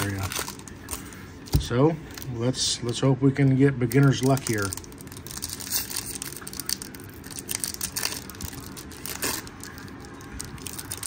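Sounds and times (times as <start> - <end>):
foil wrapper crinkling: 0.0 - 2.4, 3.4 - 11.0.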